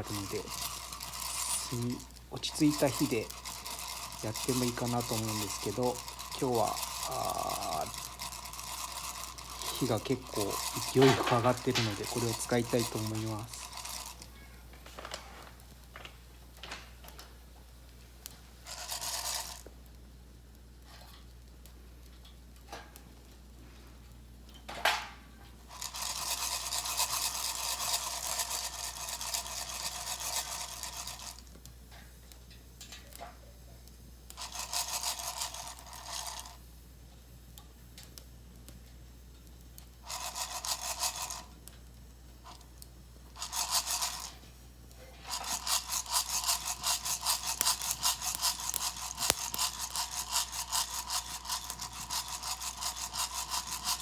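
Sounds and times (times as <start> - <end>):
coffee beans rattling in roaster: 0.0 - 17.3, 18.6 - 20.0, 20.8 - 54.0.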